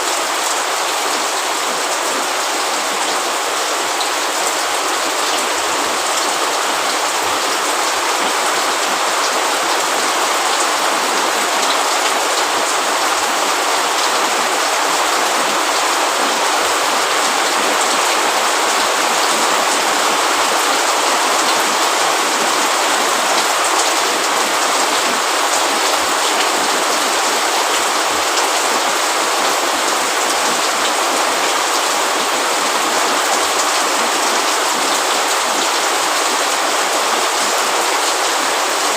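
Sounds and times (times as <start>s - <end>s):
rain on roof and leaves: 0.0s - 38.9s.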